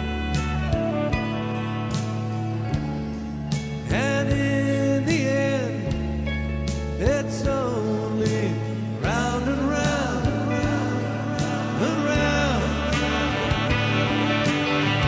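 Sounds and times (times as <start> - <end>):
country-rock song: 0.0 - 15.0.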